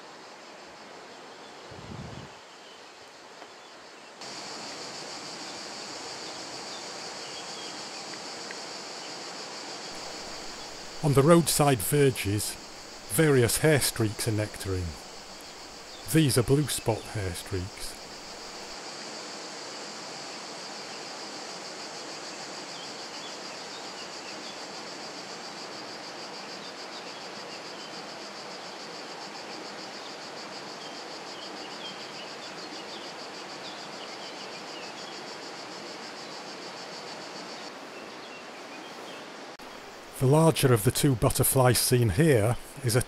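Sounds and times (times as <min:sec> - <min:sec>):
insects trilling: 0:00.0 - 0:43.0
outdoor hiss: 0:00.0 - 0:43.0.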